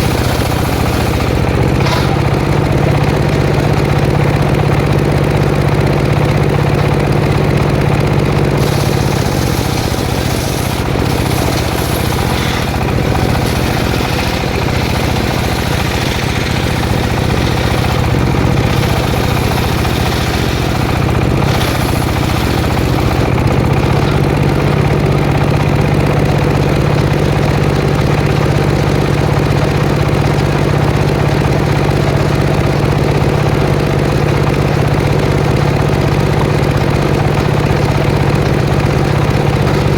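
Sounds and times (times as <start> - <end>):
engine-driven circular saw cutting wood: 0.0 - 39.9.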